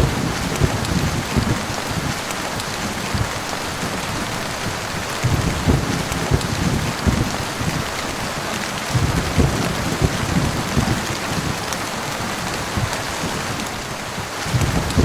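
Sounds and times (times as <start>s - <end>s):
heavy rain falling: 0.0s - 15.0s
low rumbles of thunder: 0.0s - 15.0s.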